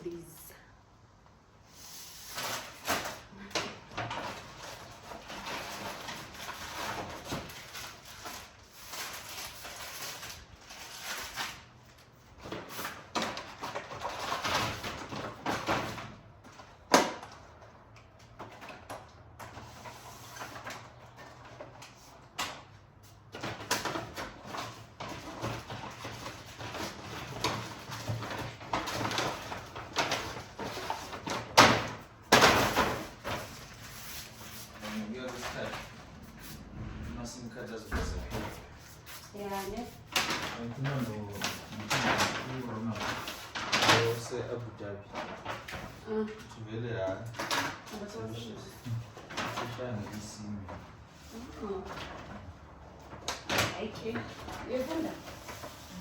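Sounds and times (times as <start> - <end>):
rustling of packaging: 1.7 - 36.6, 37.2 - 56.0.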